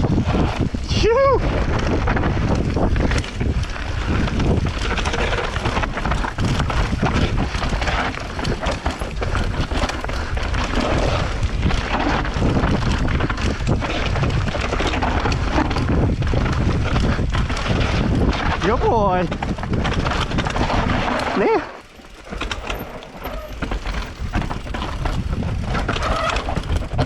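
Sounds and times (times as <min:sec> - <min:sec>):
wind and tyre noise: 0:00.0 - 0:27.0
bike knocking and rattling: 0:01.6 - 0:27.0.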